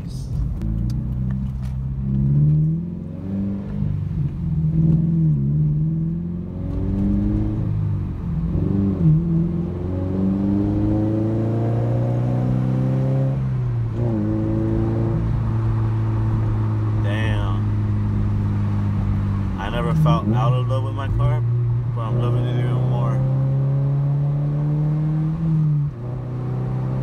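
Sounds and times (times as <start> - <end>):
car engine accelerating through gears: 0.4 - 27.0.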